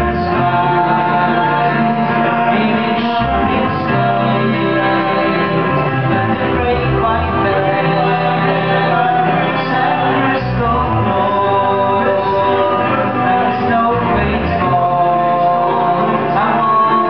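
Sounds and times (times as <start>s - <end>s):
folk-rock band playing: 0.0s - 17.0s
man singing: 0.0s - 17.0s.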